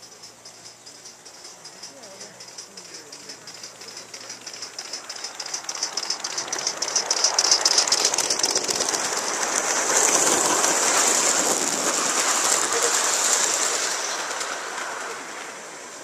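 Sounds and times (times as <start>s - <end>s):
model train clicking and rattling: 0.0s - 16.0s.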